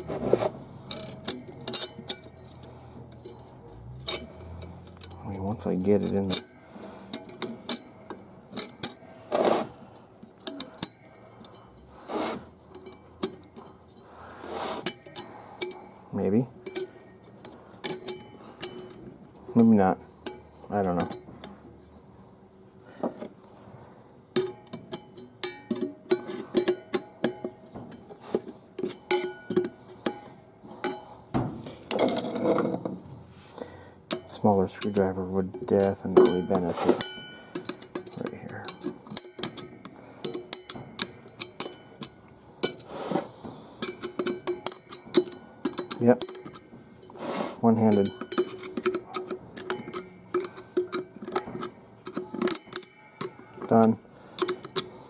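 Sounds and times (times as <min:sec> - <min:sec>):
metallic clicks and scrapes: 0:00.0 - 0:22.3, 0:23.0 - 0:55.0.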